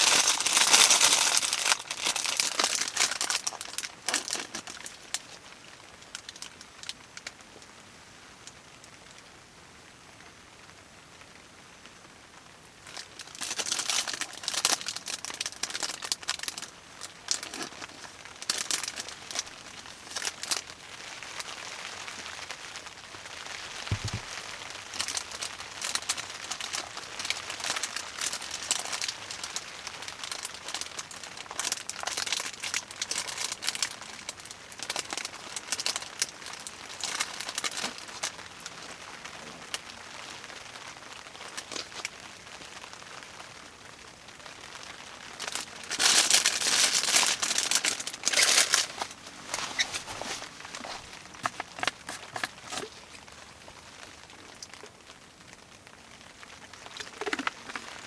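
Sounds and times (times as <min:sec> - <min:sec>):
plastic crinkling and rustling: 0:00.0 - 0:07.7, 0:12.8 - 0:58.0.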